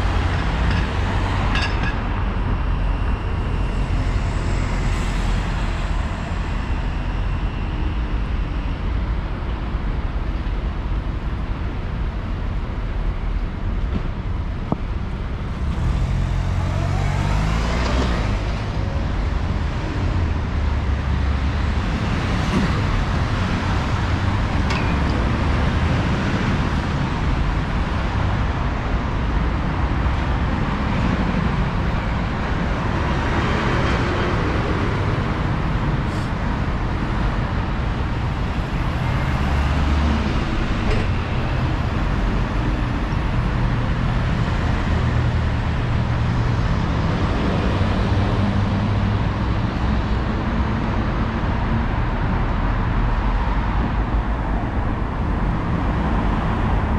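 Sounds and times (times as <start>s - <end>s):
road traffic: 0.0s - 56.9s.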